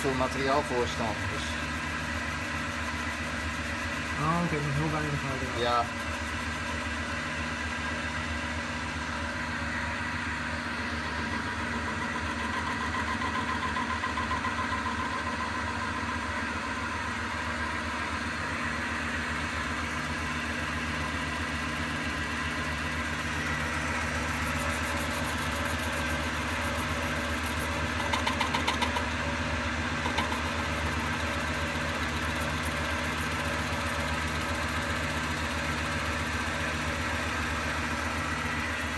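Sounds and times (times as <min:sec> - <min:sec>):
coffee grinder motor humming: 0:00.0 - 0:38.9.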